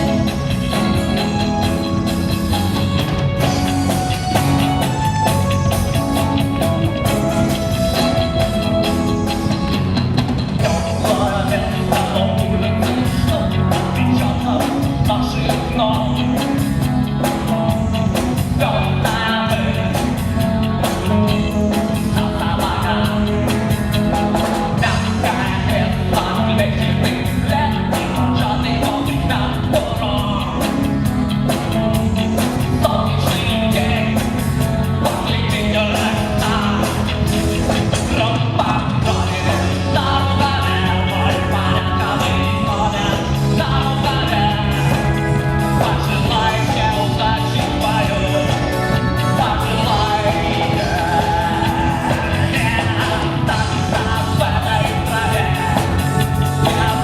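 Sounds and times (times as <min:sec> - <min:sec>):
drum kit beat: 0:00.0 - 0:57.0
electric guitar: 0:00.0 - 0:57.0
person singing: 0:10.6 - 0:57.0.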